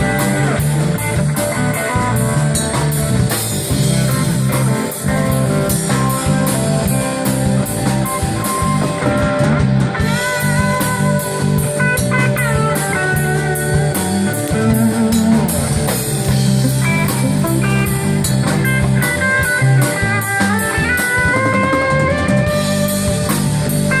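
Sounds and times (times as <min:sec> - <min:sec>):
drum kit beat: 0:00.0 - 0:24.0
electric guitar lead lines: 0:00.0 - 0:24.0.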